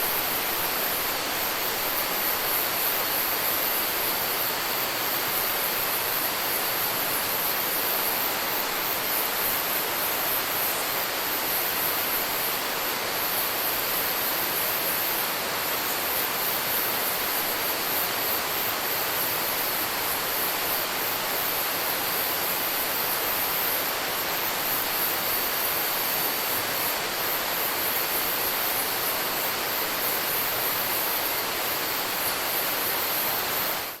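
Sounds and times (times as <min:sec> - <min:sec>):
pulsing insect chorus: 0:00.0 - 0:34.0.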